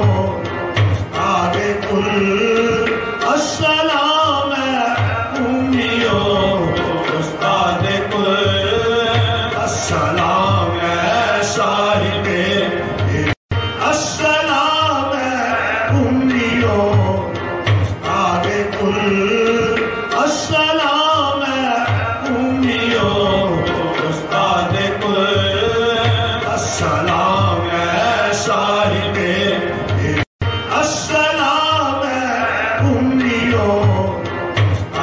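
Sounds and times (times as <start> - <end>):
person singing: 0.0 - 35.0.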